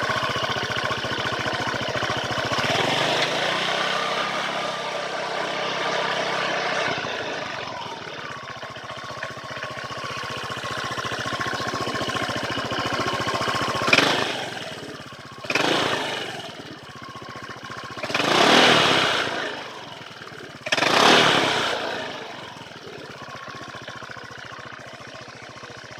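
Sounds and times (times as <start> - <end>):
scooter engine idling and revving: 0.0 - 25.9.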